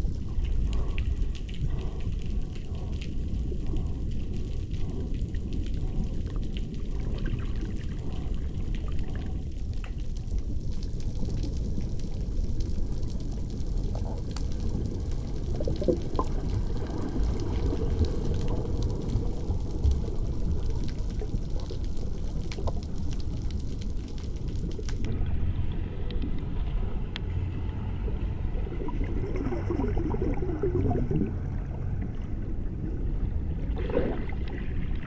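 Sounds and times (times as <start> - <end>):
fine high crackle: 0.0 - 31.3
steady low rumble: 0.0 - 35.0
water sloshing and gurgling: 0.0 - 35.0.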